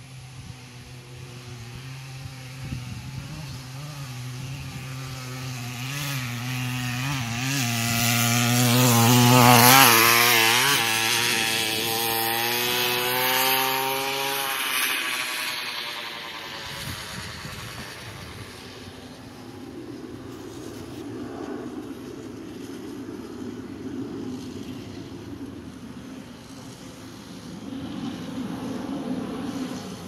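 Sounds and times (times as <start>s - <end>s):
two-stroke scooter engine: 0.0s - 30.0s.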